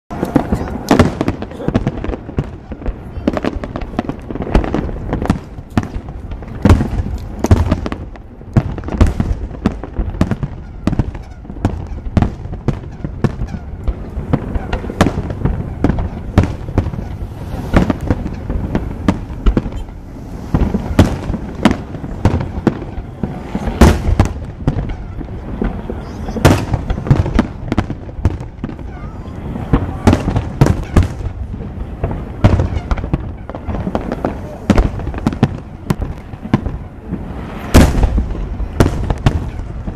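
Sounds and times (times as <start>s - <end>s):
fireworks bursting: 0.1s - 39.9s.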